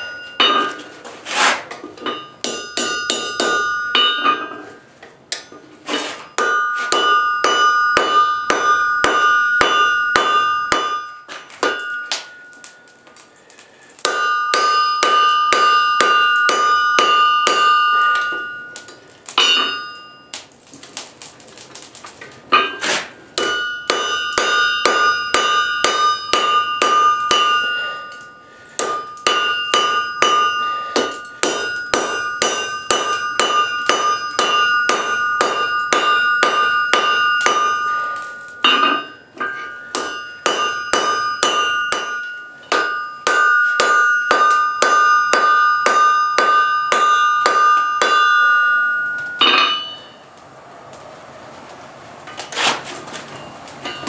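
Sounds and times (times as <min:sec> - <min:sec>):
hammer blows ringing on hot steel: 0:00.0 - 0:20.5, 0:22.5 - 0:50.4, 0:53.4 - 0:54.0.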